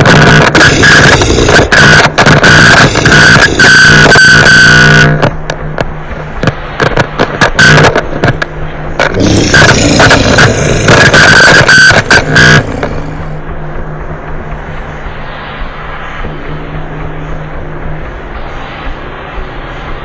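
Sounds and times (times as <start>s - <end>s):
distorted noise bursts: 0.0s - 20.0s
droning hiss and hum: 0.0s - 20.0s.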